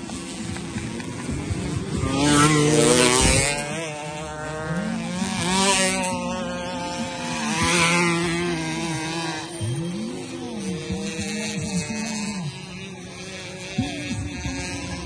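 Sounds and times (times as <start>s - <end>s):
scooter engines revving past: 0.0s - 15.0s.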